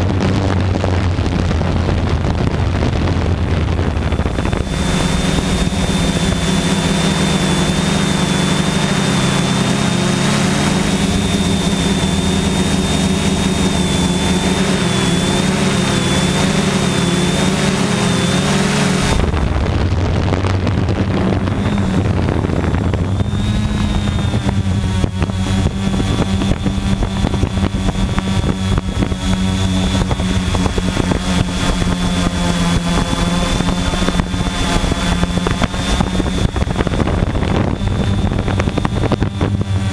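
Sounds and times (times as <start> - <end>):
drone motors buzzing: 0.0 - 39.9
thin high whine: 2.1 - 39.9.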